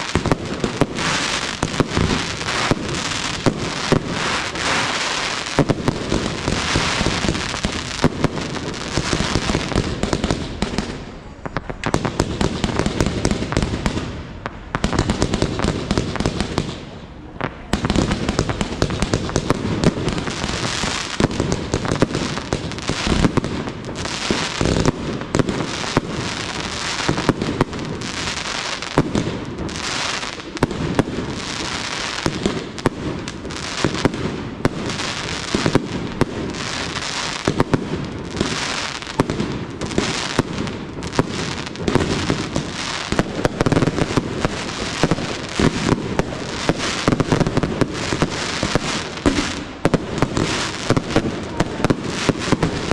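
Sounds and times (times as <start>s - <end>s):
fireworks launching and bursting: 0.0s - 52.9s.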